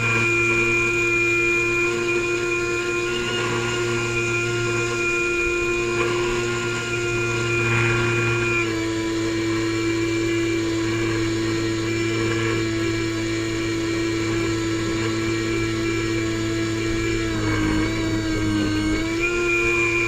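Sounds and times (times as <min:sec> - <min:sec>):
airboat engine and propeller: 0:00.0 - 0:20.0.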